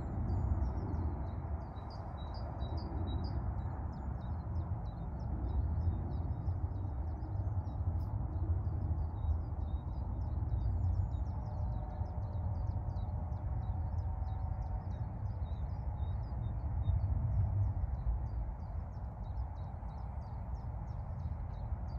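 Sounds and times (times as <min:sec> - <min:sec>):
steady low rumble: 0:00.0 - 0:21.9.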